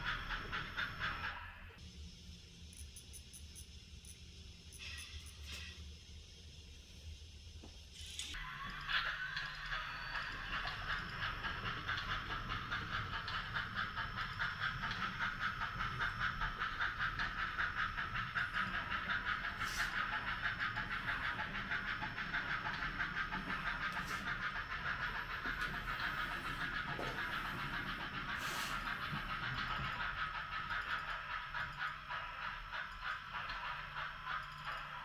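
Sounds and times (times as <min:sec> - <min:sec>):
model steam locomotive chuffing: 0:00.0 - 0:06.4, 0:08.0 - 0:35.0.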